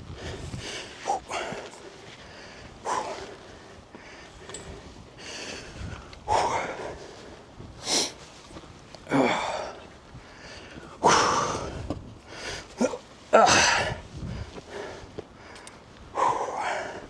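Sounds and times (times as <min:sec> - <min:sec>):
man breathing heavily: 0:00.0 - 0:08.4, 0:09.0 - 0:17.0.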